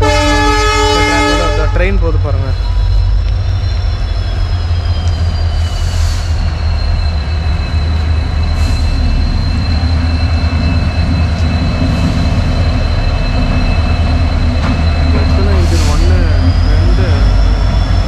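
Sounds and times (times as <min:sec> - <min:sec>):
train rumbling past: 0:00.0 - 0:18.0
wheel squeal: 0:02.3 - 0:18.0.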